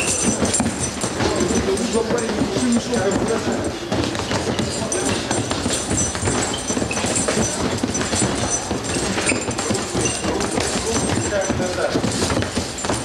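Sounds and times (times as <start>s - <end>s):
gloved punches on heavy bags: 0.0s - 13.0s.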